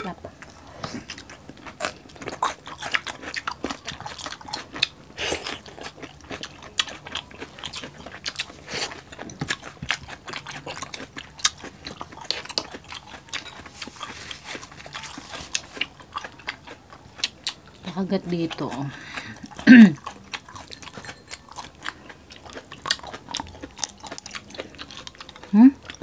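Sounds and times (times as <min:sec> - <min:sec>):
people biting and chewing crunchy food: 0:00.0 - 0:26.0.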